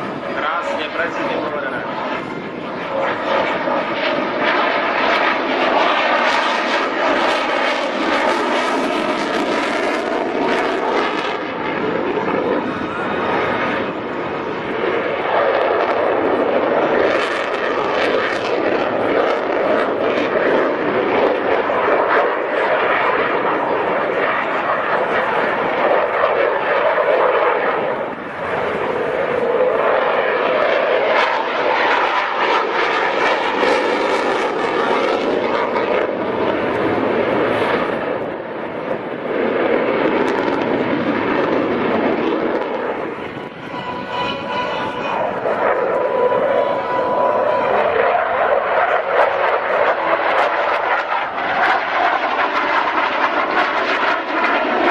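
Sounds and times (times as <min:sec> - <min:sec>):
fighter jet engine noise: 0:00.0 - 0:54.9.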